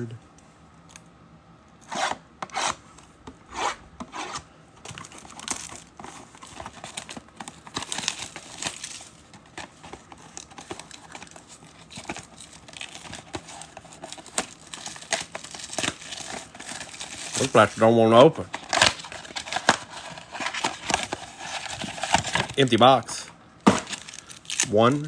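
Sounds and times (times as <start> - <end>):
plastic wrap crinkling: 4.9 - 25.0.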